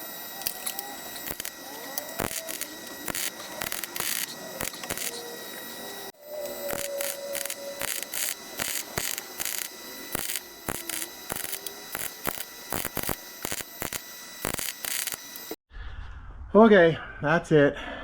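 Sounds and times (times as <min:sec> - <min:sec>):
sharp welding pops: 0:00.0 - 0:15.6
welder crackling hiss: 0:00.0 - 0:15.6.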